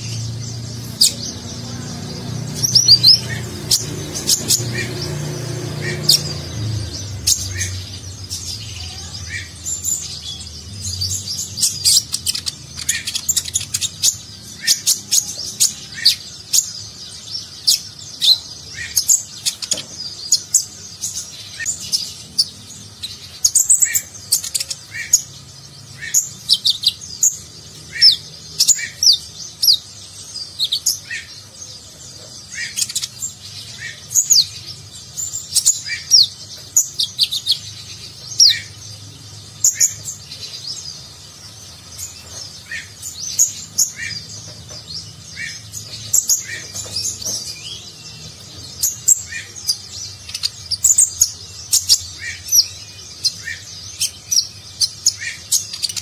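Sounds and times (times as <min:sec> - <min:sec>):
sunbird singing: 0:00.0 - 0:56.0.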